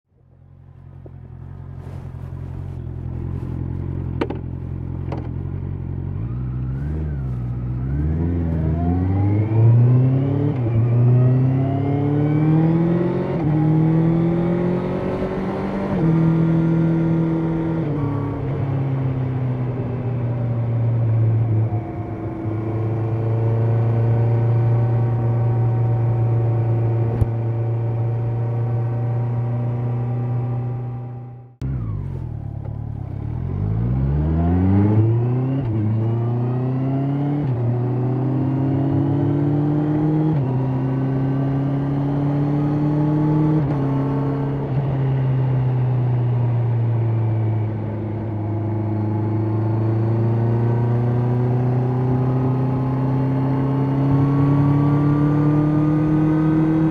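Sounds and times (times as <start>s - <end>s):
motorcycle engine revving through upshifts: 1.4s - 56.9s.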